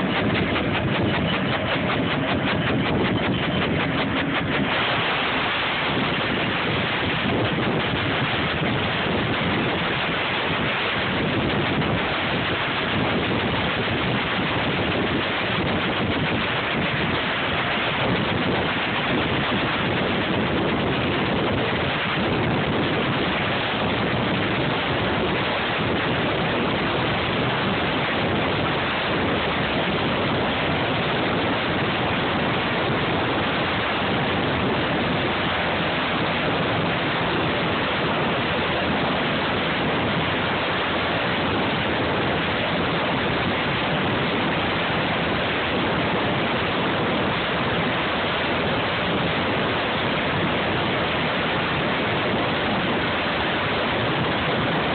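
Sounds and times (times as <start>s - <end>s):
helicopter engine and rotor noise: 0.0s - 54.9s.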